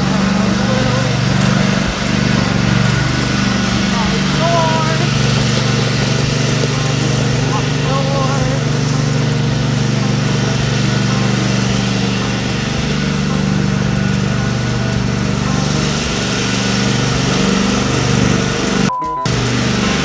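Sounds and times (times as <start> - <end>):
small tractor engine running: 0.0 - 20.0.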